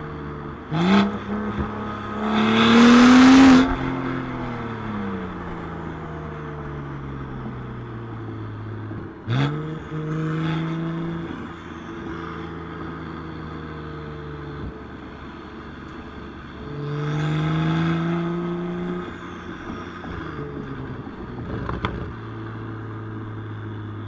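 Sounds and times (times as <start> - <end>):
car engine from inside cabin: 0.0 - 24.0.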